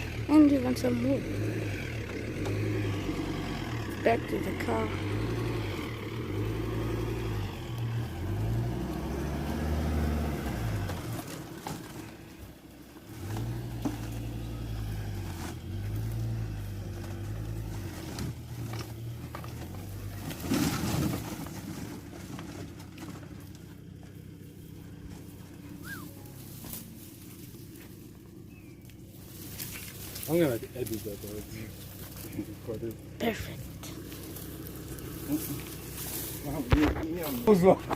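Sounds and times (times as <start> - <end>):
diesel engine revving off-road: 0.0 - 37.9.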